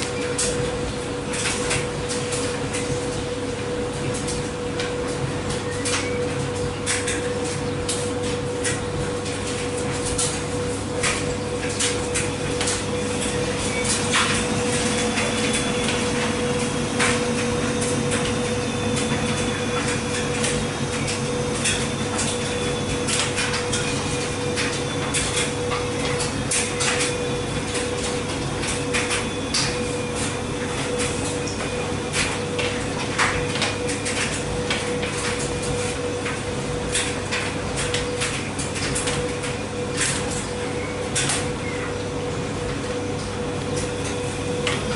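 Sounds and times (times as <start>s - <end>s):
washing machine drum tumbling: 0.0s - 44.9s.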